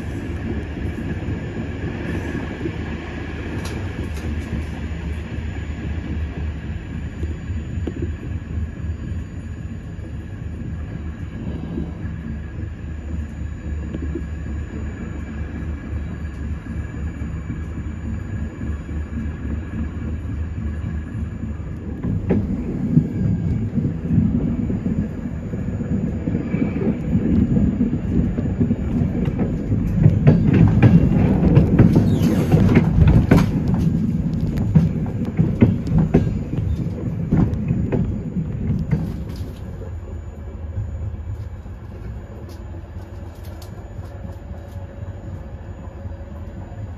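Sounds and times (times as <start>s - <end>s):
train rumbling on rails: 0.0s - 46.9s
wheels clicking over rail joints: 0.0s - 46.9s.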